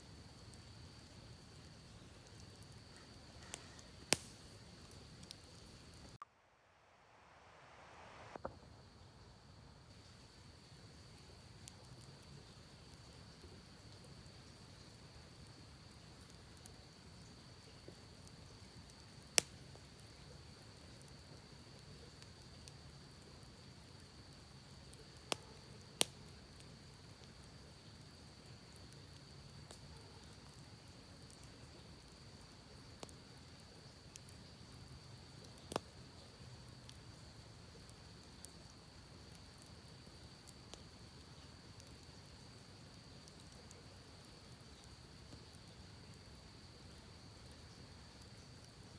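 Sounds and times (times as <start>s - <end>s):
campfire wood popping: 0.0s - 6.2s, 10.0s - 48.9s.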